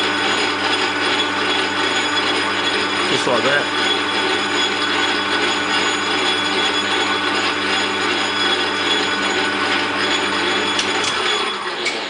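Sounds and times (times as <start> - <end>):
lathe tool cutting plastic: 0.0 - 12.0
metal lathe whining: 0.0 - 12.0.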